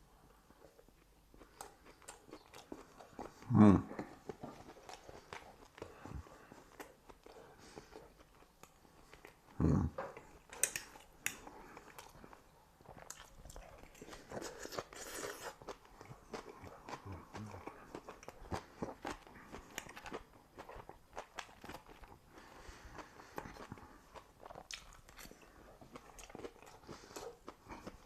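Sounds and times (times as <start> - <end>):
crunchy food chewing: 0.2 - 28.0.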